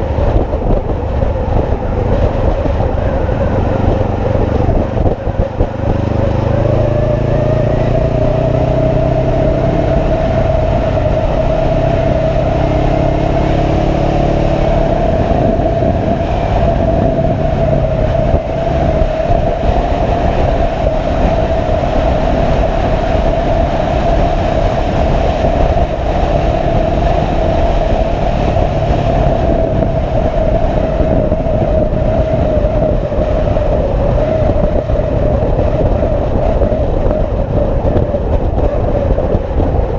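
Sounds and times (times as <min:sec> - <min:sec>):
motorcycle engine running: 0:00.0 - 0:39.9
steady whine: 0:00.0 - 0:39.9
wind noise on microphone: 0:00.0 - 0:39.9.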